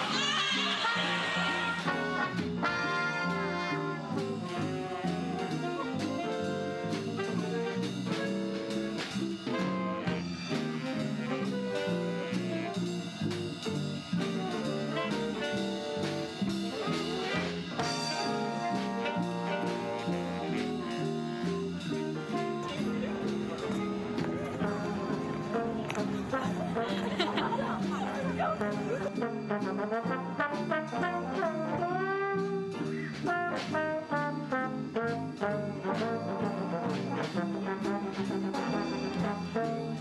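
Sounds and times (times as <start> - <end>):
instrumental swing jazz: 0.0 - 40.0.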